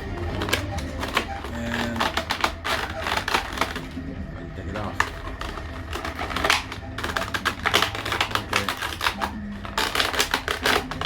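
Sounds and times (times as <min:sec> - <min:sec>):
plastic packaging clicking and rattling: 0:00.0 - 0:11.0.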